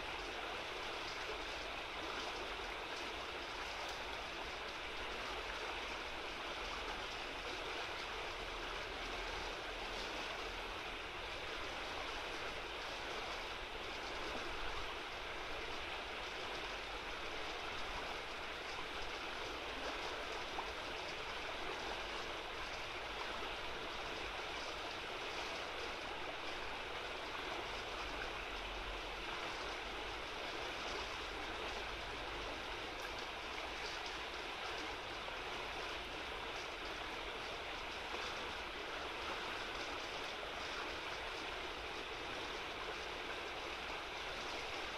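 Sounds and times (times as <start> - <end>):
river rushing and babbling: 0.0 - 44.9.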